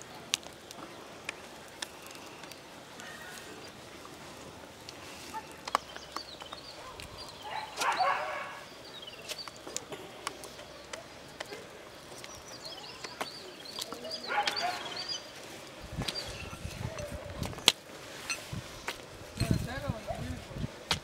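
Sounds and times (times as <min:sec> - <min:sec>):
birds chirping: 0:00.0 - 0:18.4
sharp crackles: 0:00.0 - 0:21.0.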